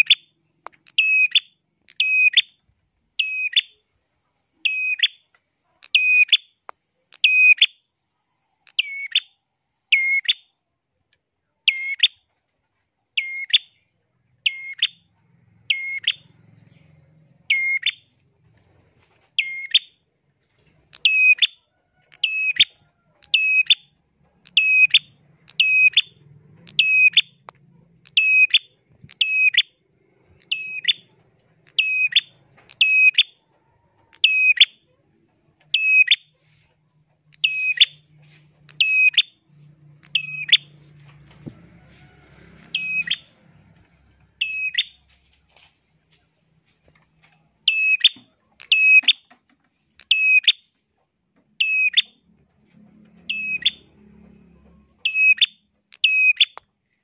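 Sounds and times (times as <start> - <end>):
bird chirping: 0.0 - 3.9, 4.5 - 7.9, 8.6 - 10.6, 11.6 - 12.3, 13.1 - 18.2, 19.4 - 45.2, 47.2 - 50.8, 51.5 - 52.4, 53.0 - 56.7.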